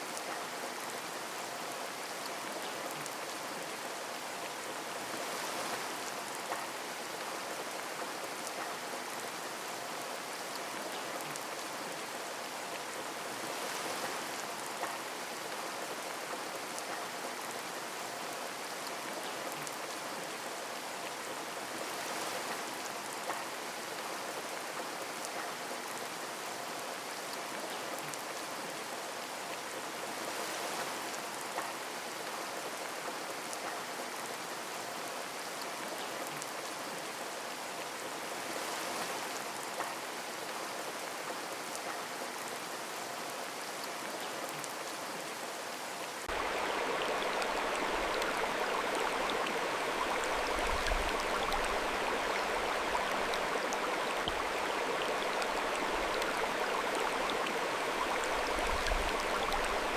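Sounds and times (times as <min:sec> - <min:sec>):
flowing stream water: 0:00.0 - 0:59.9
steady rain: 0:00.0 - 0:59.9.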